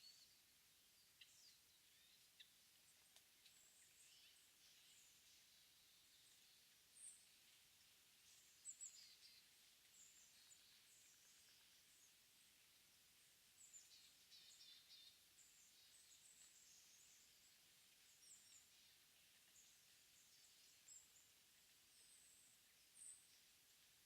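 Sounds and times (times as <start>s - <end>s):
small birds chirping: 0.0s - 24.0s
soft hiss: 0.0s - 24.0s.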